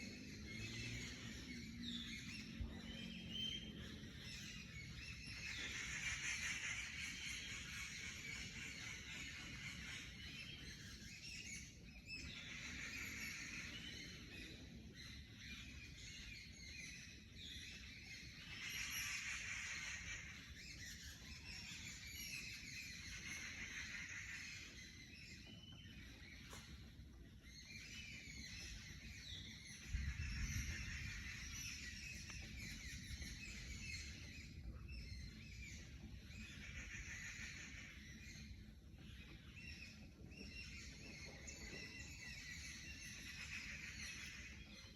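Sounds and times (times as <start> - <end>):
birds singing and chirping: 0.0 - 44.9.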